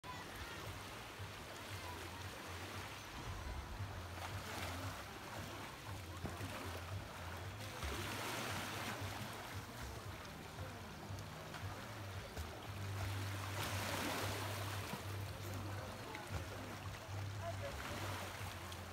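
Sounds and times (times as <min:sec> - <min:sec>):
small waves lapping at shore: 0:00.0 - 0:18.9.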